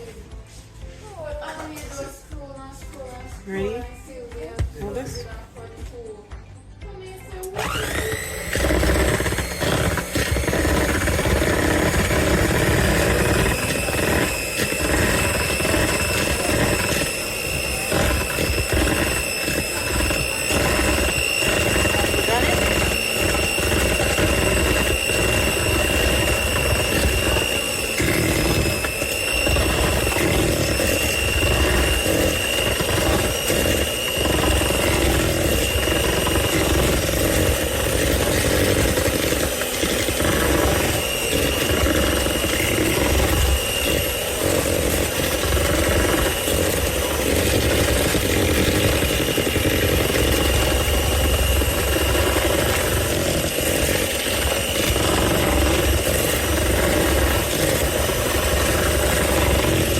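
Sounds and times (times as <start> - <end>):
electric mixer whining: 3.3 - 5.9, 7.4 - 59.9.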